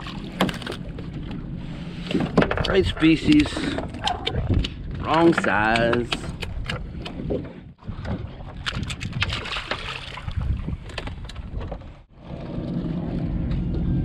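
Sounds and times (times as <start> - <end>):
boat engine rumble: 0.0 - 14.0
water noise: 0.0 - 14.0
wind: 0.0 - 14.0.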